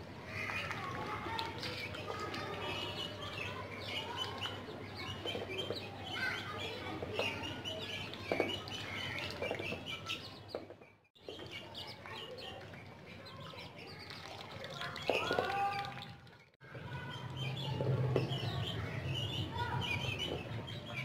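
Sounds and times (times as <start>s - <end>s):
ducks dabbling in water: 0.1s - 10.5s, 11.2s - 21.0s
chicks peeping: 0.5s - 15.8s, 16.9s - 21.0s.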